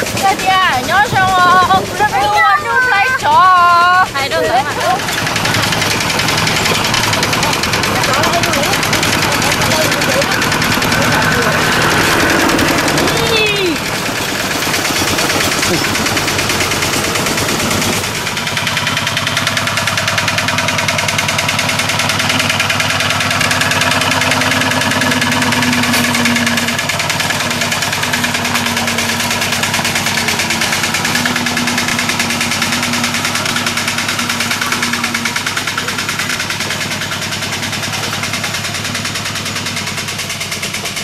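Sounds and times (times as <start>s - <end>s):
single-cylinder diesel engine running: 0.0s - 41.0s.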